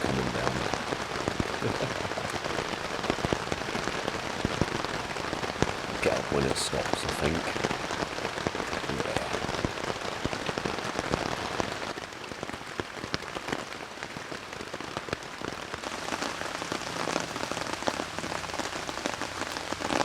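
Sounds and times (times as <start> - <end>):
heavy rain on a tent: 0.0 - 20.0.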